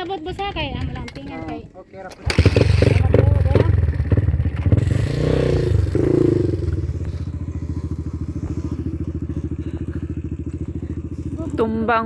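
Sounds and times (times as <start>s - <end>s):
dirt bike engine revving: 2.2s - 12.0s.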